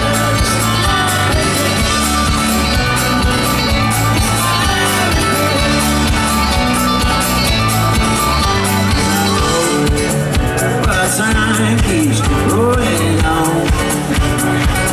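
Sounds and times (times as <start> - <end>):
folk band playing live: 0.0 - 14.9
strummed acoustic guitar: 0.0 - 14.9.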